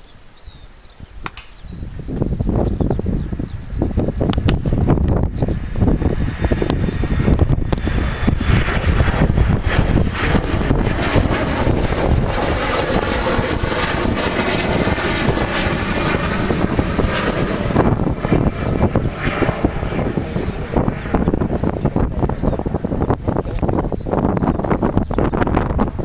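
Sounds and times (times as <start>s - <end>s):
jet engines running: 0.0s - 26.0s
wind buffeting microphone: 0.2s - 26.0s.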